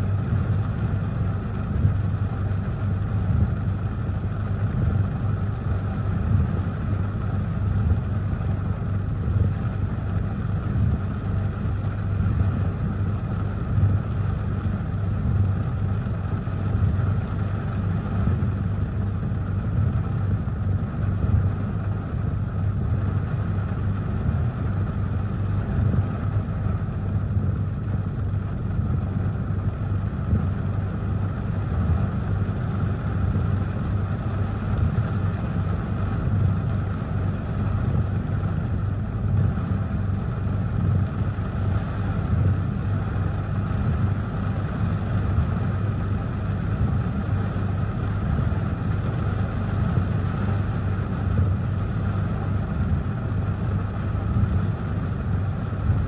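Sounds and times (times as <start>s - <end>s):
rain on a car: 0.0s - 56.0s.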